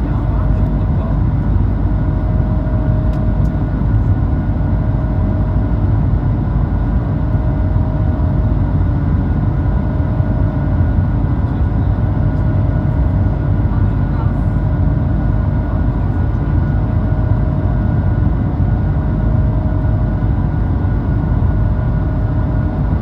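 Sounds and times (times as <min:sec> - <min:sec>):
jet engines rumbling and whining: 0:00.0 - 0:23.0.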